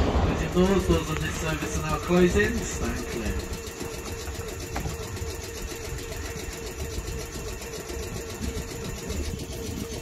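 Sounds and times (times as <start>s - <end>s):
train equipment humming: 0.0s - 10.0s.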